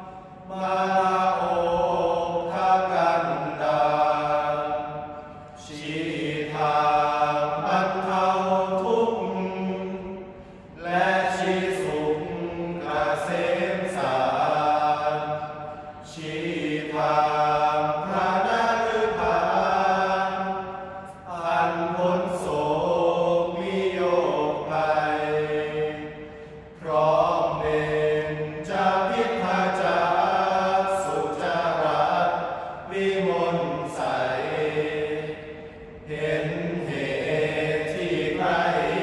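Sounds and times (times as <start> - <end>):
men chanting in unison: 0.0 - 39.0.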